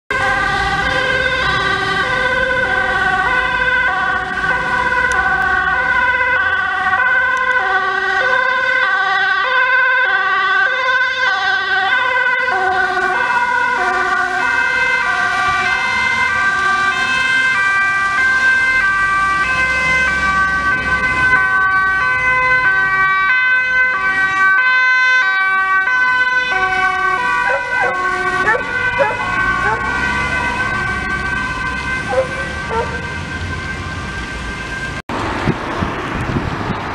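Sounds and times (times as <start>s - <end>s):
two-tone emergency sirens: 0.1s - 36.9s.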